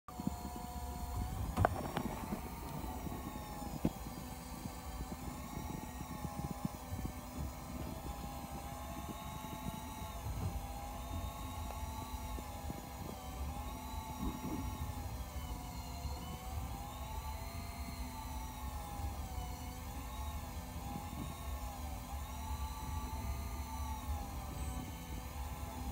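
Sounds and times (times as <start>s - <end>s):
electric fishing reel whining: 0.1s - 25.9s.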